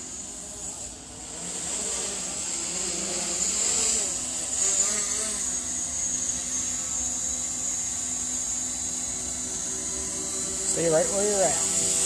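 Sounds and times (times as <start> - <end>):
drone propellers buzzing: 0.0 - 12.0.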